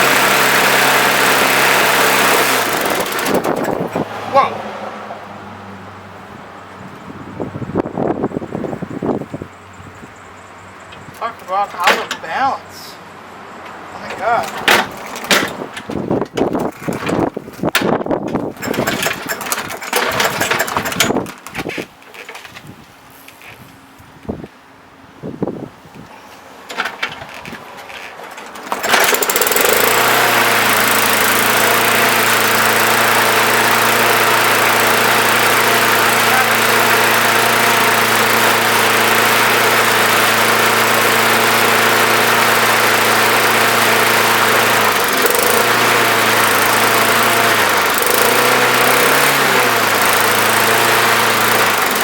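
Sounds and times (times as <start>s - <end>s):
lawn mower engine running: 0.0s - 9.5s, 13.1s - 22.4s, 26.5s - 52.0s.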